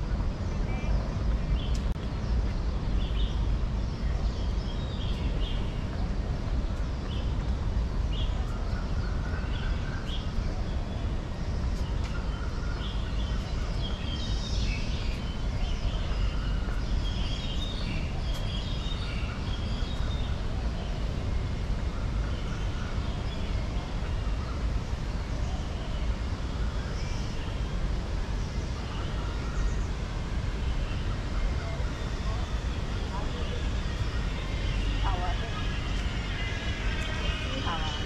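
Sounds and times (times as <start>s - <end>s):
steady low rumble: 0.0s - 38.0s
birds chirping: 0.5s - 38.0s.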